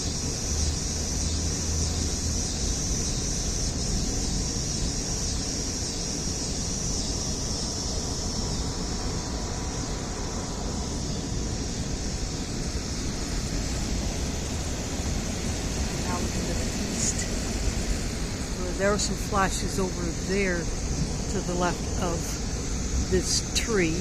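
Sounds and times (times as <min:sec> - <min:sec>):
air conditioner hum: 0:00.0 - 0:24.0
cicadas buzzing: 0:00.0 - 0:24.0.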